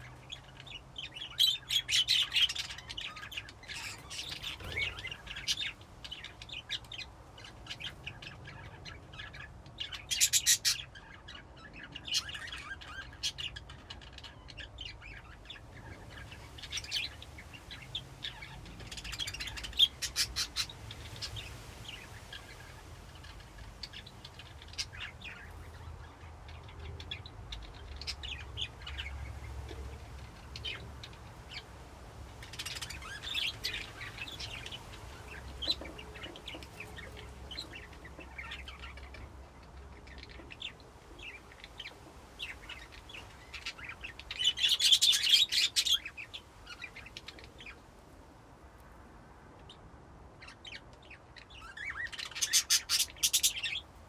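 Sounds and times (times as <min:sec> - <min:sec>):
budgies chirping and chattering: 0:00.0 - 0:48.2, 0:50.4 - 0:54.0.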